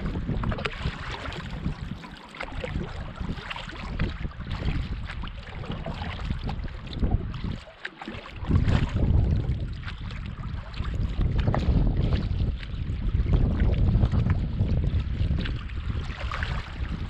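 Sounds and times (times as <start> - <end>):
wind gusting on microphone: 0.0 - 7.7, 8.3 - 17.0
water lapping around canoe: 0.0 - 17.0.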